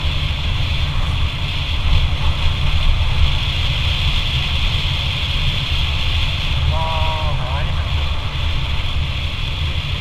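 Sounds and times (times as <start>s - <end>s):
motorcycle engine running: 0.0s - 10.0s
steady hiss: 0.0s - 10.0s
wind buffeting microphone: 0.0s - 10.0s.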